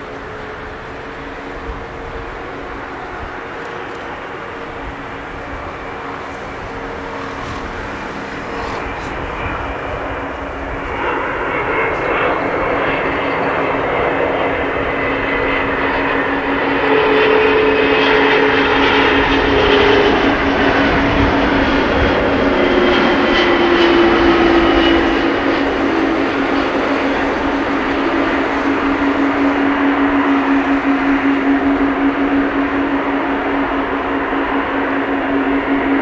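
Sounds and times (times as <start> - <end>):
broad rush of jet noise: 0.0 - 36.0
jet engines whining: 0.0 - 36.0.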